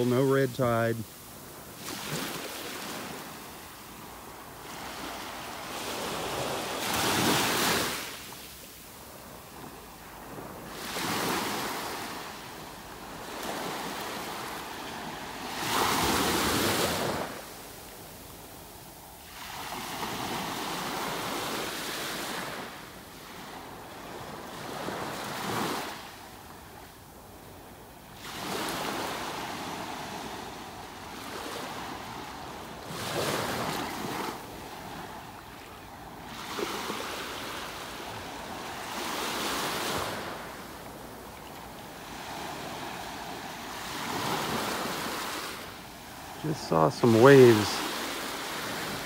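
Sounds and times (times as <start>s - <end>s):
waves breaking on sandy beach: 0.0s - 49.0s.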